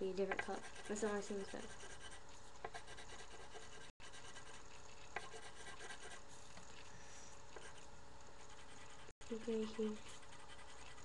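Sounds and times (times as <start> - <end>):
pencil scratching on paper: 0.2 - 6.9, 7.5 - 11.0.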